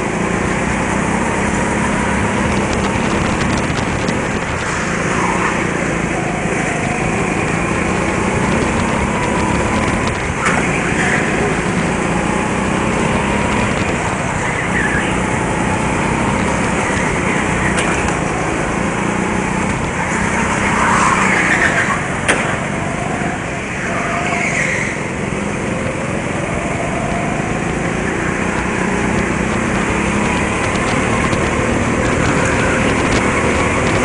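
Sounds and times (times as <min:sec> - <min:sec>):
go-kart engines droning: 0:00.0 - 0:34.0.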